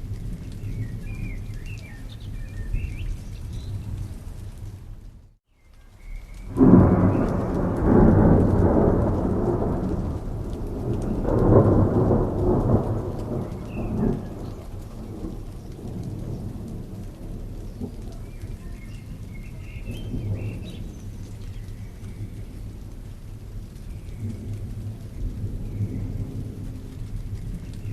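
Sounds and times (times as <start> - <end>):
thunder rumbling: 0.0 - 5.3, 6.4 - 27.9
steady rain: 0.0 - 27.9.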